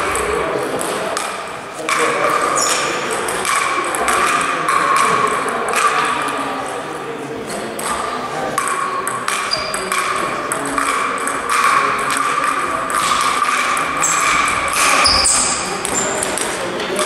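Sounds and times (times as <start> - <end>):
table tennis ball pings: 0.0 - 6.3, 7.5 - 17.0.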